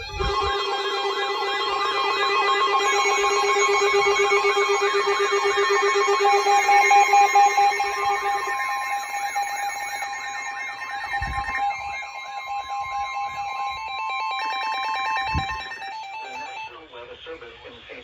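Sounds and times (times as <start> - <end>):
fast pulsing beeps: 0.0 - 16.7
lower pulsing beep: 0.0 - 16.7
steady high tones: 0.0 - 16.7
warbling alert tone: 0.0 - 16.7.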